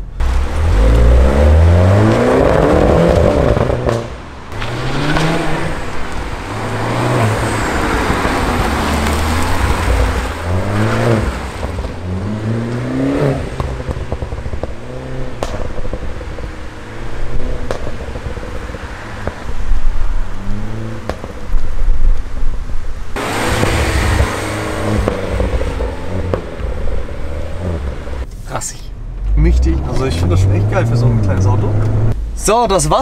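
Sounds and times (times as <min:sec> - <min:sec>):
exhaust pops: 0:00.0 - 0:32.6
car engine accelerating hard: 0:00.2 - 0:21.6, 0:23.2 - 0:28.2, 0:29.2 - 0:32.2.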